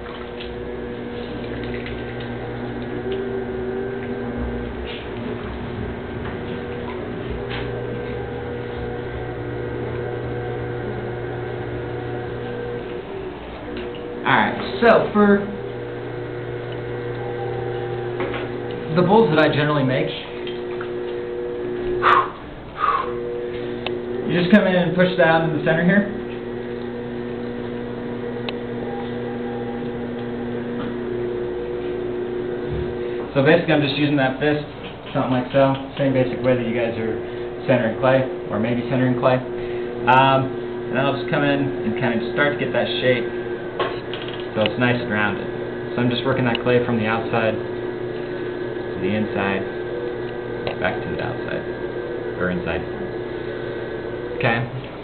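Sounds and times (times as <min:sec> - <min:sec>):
potter's wheel humming: 0:00.0 - 0:55.0.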